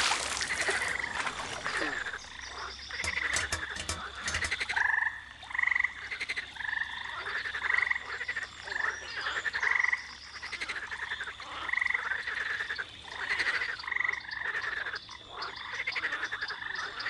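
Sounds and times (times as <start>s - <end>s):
frogs croaking: 0.1s - 17.0s.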